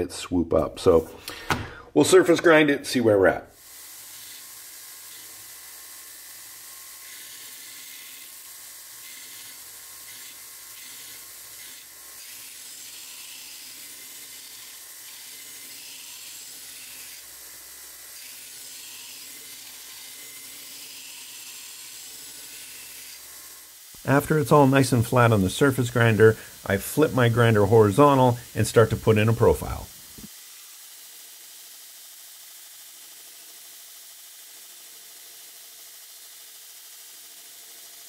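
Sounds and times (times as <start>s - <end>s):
belt grinder grinding steel: 3.6s - 38.0s.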